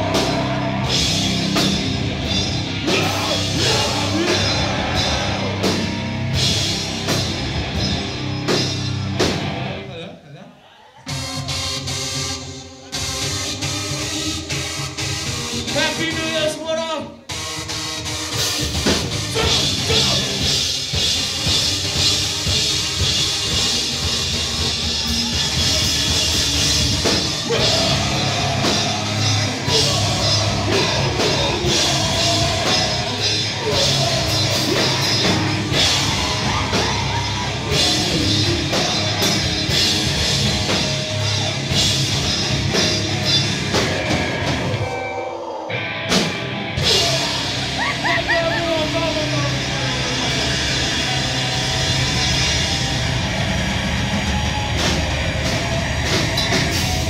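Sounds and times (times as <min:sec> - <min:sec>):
drum kit: 0:00.0 - 0:09.9, 0:17.3 - 0:45.2, 0:46.0 - 0:57.0
bass guitar: 0:00.0 - 0:10.0, 0:18.4 - 0:44.9, 0:45.7 - 0:57.0
distorted electric guitars: 0:00.0 - 0:10.0, 0:17.3 - 0:45.1, 0:45.7 - 0:57.0
rock vocals: 0:00.0 - 0:10.9, 0:18.6 - 0:57.0.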